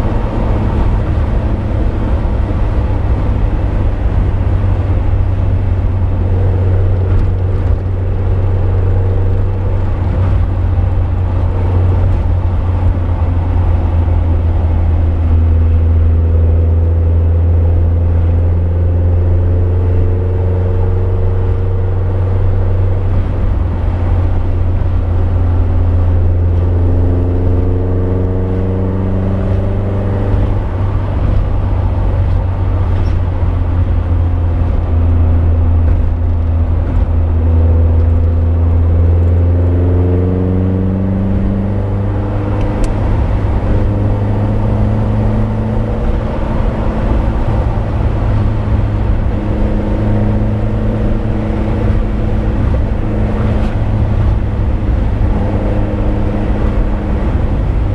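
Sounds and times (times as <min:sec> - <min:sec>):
car engine accelerating: 0:00.0 - 0:57.9
low road rumble: 0:00.0 - 0:57.9.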